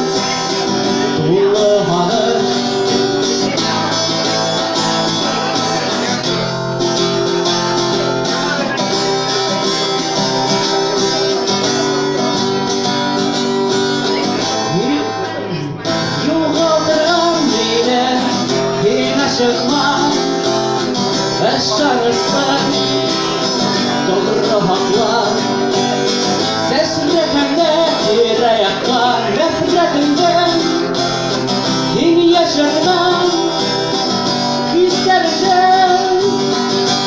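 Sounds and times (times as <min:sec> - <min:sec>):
person singing: 0:00.0 - 0:37.0
strummed acoustic guitar: 0:00.0 - 0:37.0.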